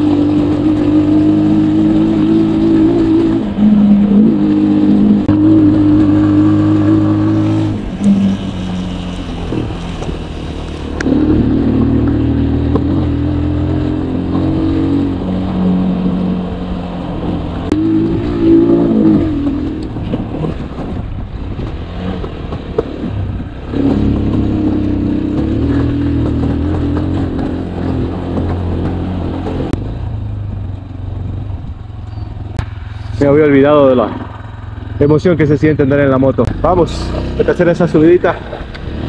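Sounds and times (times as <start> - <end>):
motorcycle engine under throttle: 0.0 - 39.0.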